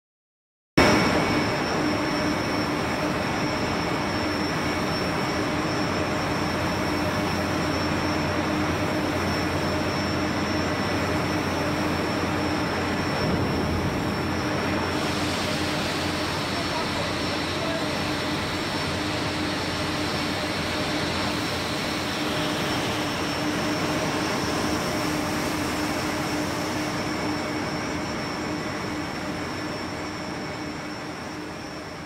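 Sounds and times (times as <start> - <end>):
machinery drone with high whine: 0.8 - 32.0.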